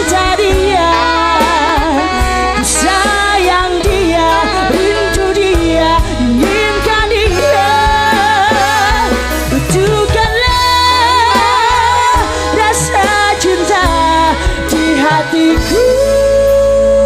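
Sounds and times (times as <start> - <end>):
band playing: 0.0 - 17.0
electric guitar sliding melody: 0.0 - 17.0.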